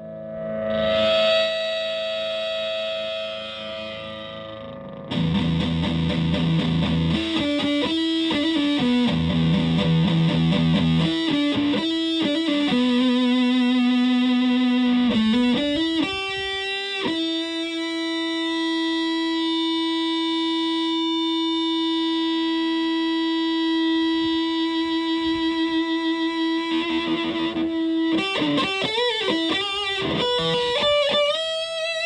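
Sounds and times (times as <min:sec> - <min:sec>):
fuzz electric guitar playing: 0:00.0 - 0:32.0.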